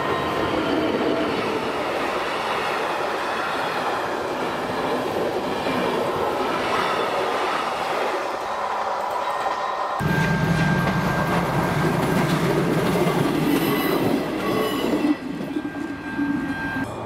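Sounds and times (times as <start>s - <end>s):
train wheels clattering on rails: 0.0s - 16.9s.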